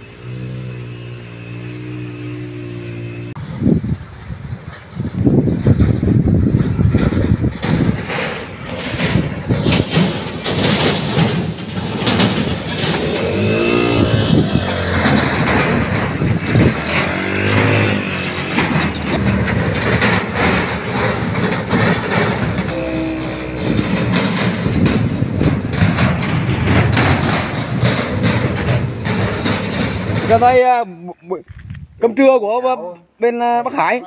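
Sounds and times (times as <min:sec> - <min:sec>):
vehicle engine revving: 0:00.0 - 0:03.8, 0:06.6 - 0:30.6.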